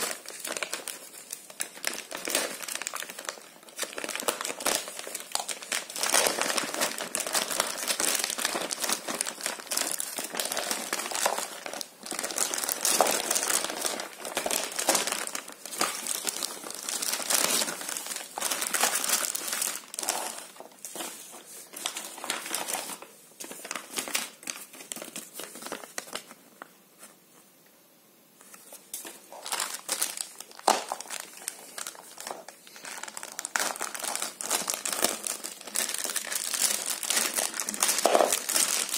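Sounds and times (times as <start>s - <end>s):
plastic bags crinkling: 0.0s - 26.4s, 28.5s - 38.9s.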